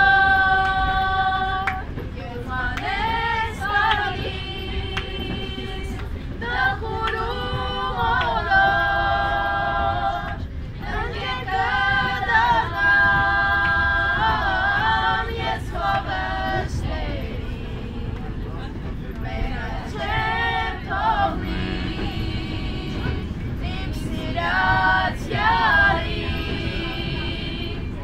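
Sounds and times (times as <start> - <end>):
train carriage rumble: 0.0 - 28.0
women singing unaccompanied: 0.0 - 28.0.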